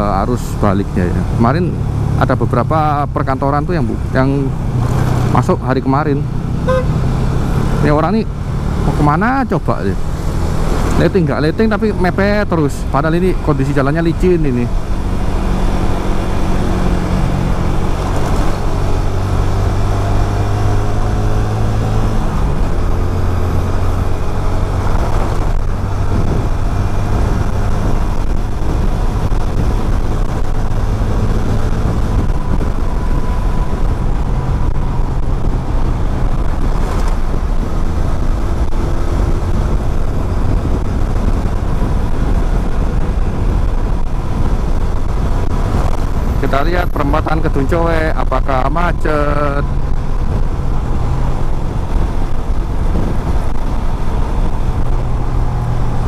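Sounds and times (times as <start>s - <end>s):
traffic: 0.0s - 56.0s
wind and road rush: 0.0s - 56.0s.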